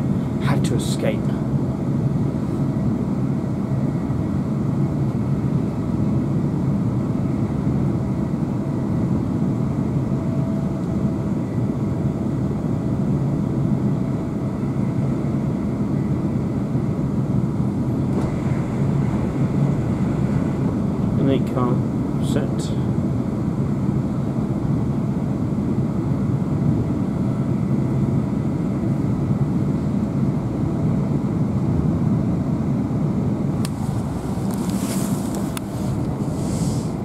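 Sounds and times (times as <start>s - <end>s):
train rumble from inside carriage: 0.0s - 37.0s.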